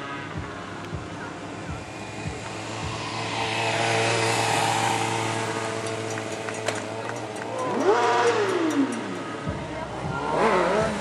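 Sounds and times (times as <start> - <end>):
motorcycle engine revving: 0.2 - 11.0.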